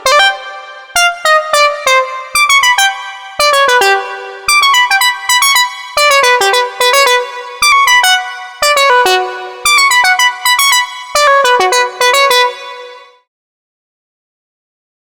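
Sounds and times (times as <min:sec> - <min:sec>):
plucky synthesizer falling notes: 0:00.0 - 0:13.2.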